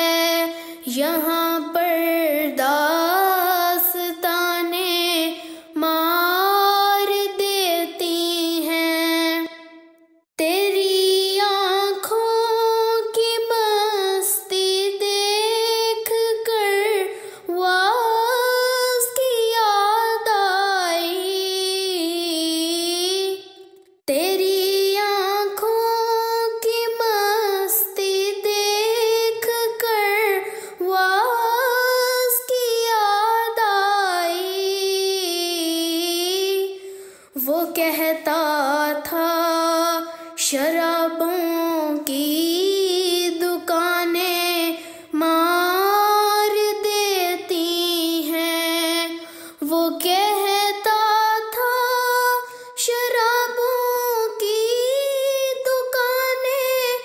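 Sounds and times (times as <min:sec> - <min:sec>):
woman singing: 0:00.0 - 0:57.0.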